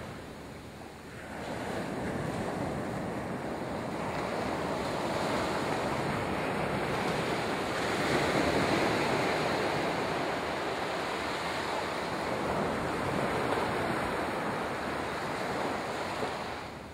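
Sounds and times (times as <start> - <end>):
small waves washing up beach: 0.0 - 16.9.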